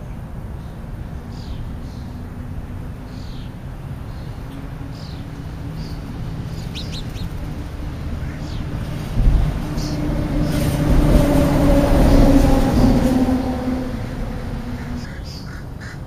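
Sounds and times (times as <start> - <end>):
songbird chirping: 0.0 - 15.6.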